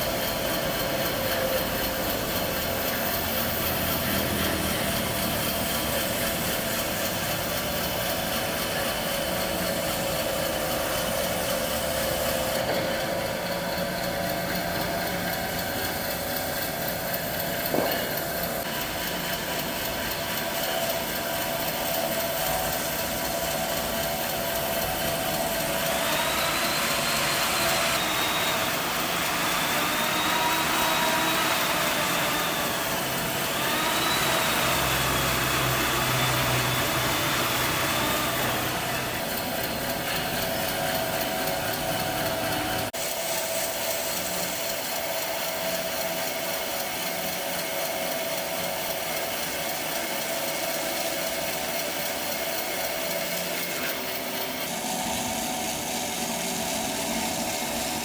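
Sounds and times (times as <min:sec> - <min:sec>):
hissing whine of machine: 0:00.0 - 0:58.0
workshop machinery humming: 0:00.0 - 0:58.0.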